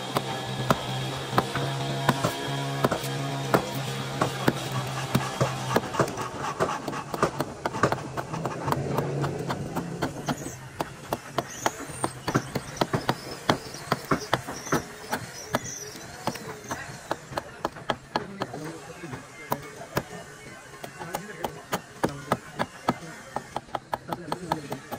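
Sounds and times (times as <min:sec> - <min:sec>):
hammer striking wooden timber: 0:00.0 - 0:20.2, 0:20.8 - 0:24.9.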